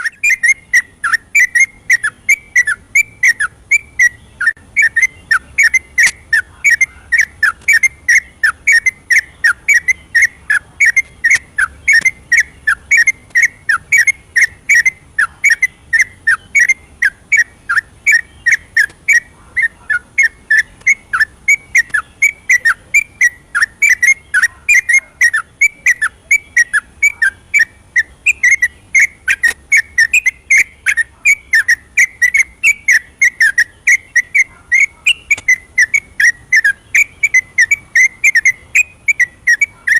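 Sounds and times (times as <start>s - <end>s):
bulbul whistled song: 0.0s - 39.9s.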